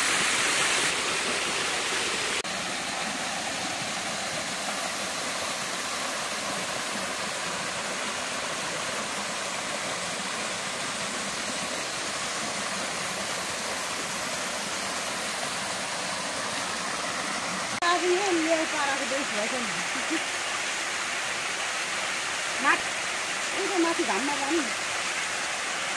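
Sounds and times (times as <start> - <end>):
waterfall splashing into pool: 0.0 - 25.9.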